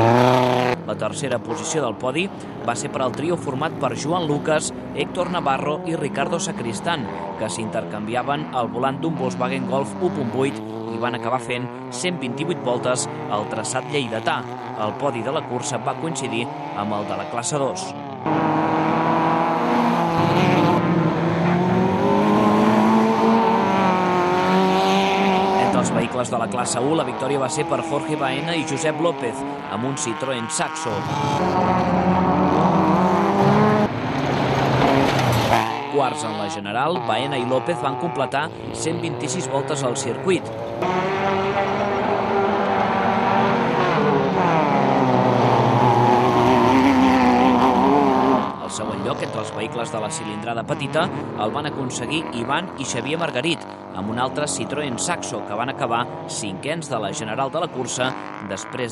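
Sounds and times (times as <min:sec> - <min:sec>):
racing car engines revving high: 0:00.0 - 0:58.9.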